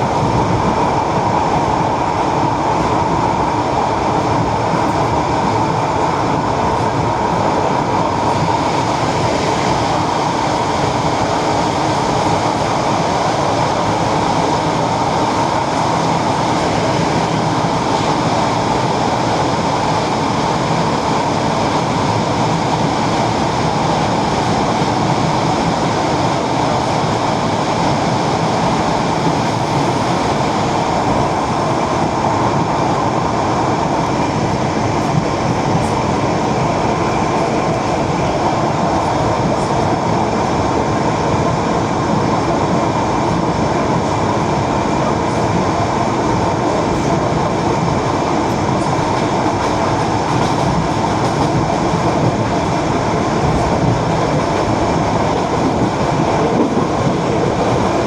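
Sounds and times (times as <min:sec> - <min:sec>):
train wheel and running noise: 0:00.0 - 0:58.0.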